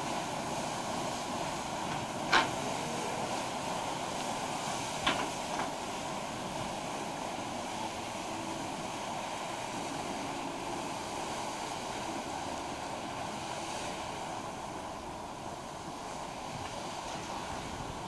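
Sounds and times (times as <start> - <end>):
paddle steamer rushing past: 0.0 - 18.0
water churned by paddle wheels: 0.0 - 18.0.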